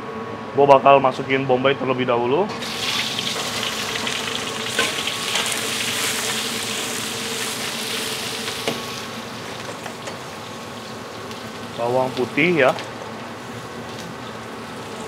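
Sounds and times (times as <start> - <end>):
onion sizzling in hot oil: 2.6 - 15.0.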